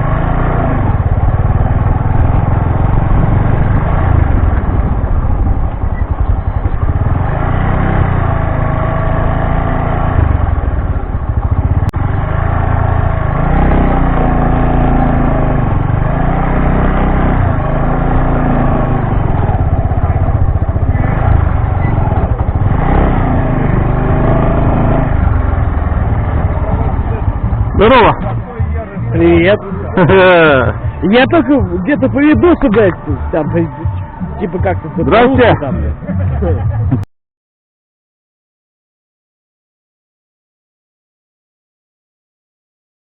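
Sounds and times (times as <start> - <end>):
motorcycle engine running: 0.0 - 37.1.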